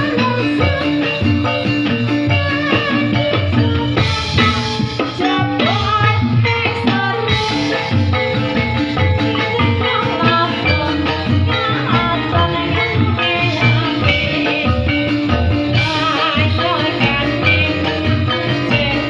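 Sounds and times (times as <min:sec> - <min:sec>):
melodic percussion notes: 0:00.0 - 0:19.0
steady drumming: 0:00.0 - 0:19.0.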